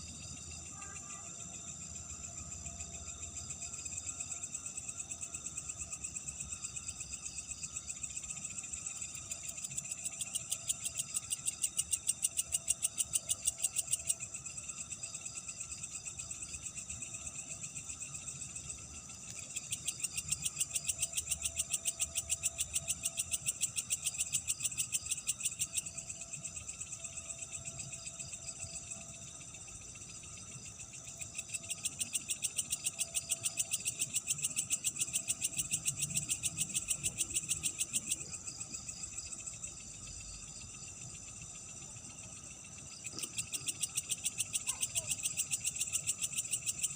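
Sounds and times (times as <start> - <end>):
high-pitched insect drone: 0.0 - 46.9
insect pulsing trill: 0.0 - 46.9.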